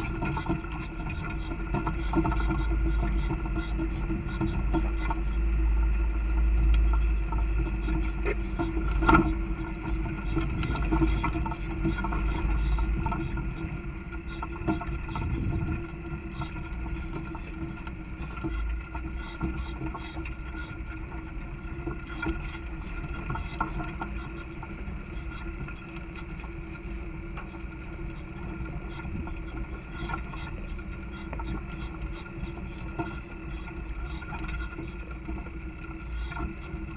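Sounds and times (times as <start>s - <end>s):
vehicle engine drone: 0.0s - 36.9s.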